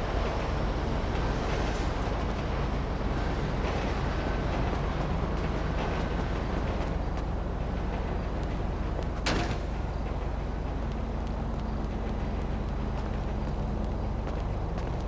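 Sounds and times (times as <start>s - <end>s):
running vehicle rumble: 0.0s - 15.0s.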